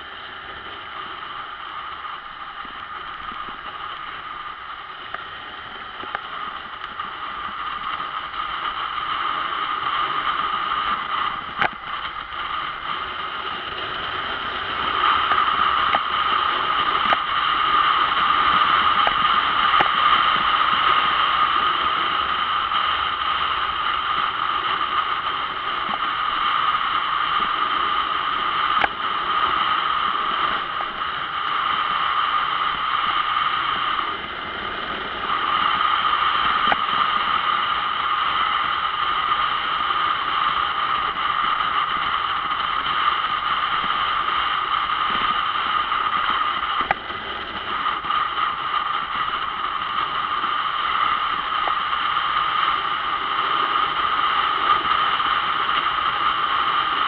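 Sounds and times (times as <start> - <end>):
motorcycle road noise: 0.0 - 57.0
wind rushing on microphone: 0.0 - 57.0.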